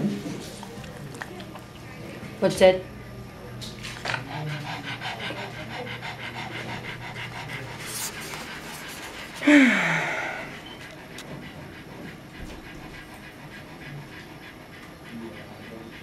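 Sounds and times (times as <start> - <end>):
dog panting: 0.0 - 2.5, 3.7 - 9.4, 10.2 - 16.0.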